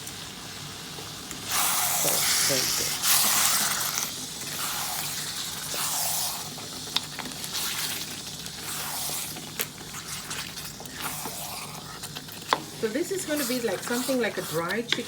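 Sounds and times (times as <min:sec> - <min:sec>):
curry sizzling in a wok: 0:00.0 - 0:15.0.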